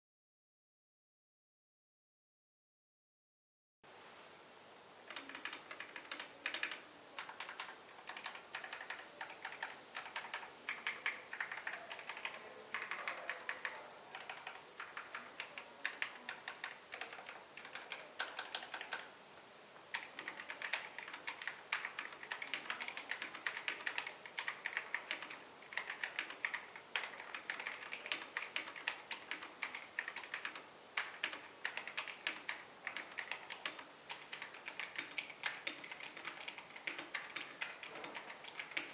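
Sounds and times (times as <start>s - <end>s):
mechanical keyboard typing: 5.1s - 19.1s, 19.9s - 38.9s.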